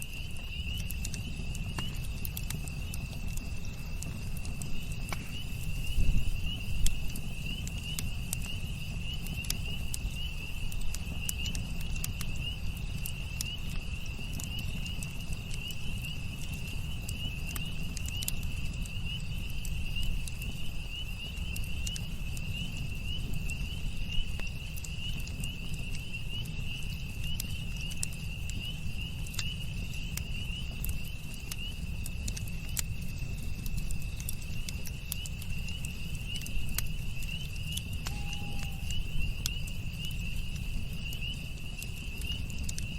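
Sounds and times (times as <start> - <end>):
campfire crackling and popping: 0.0 - 42.9
crickets chirping: 0.0 - 42.9.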